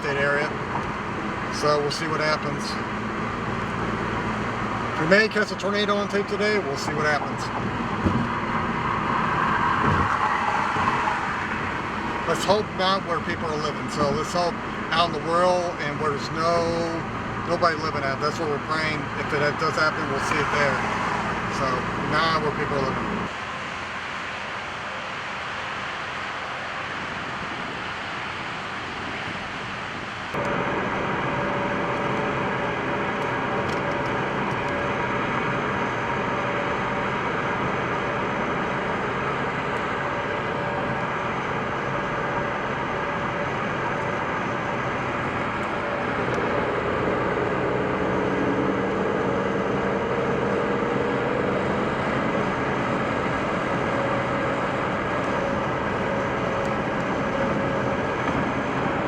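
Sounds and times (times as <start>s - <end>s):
road and engine noise inside car: 0.0s - 59.0s.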